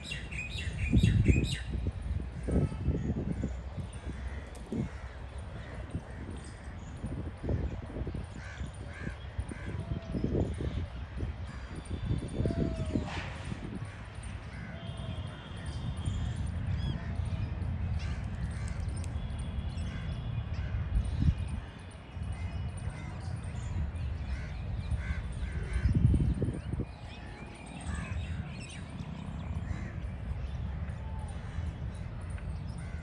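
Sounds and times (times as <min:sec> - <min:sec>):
birds calling: 0:00.0 - 0:33.0.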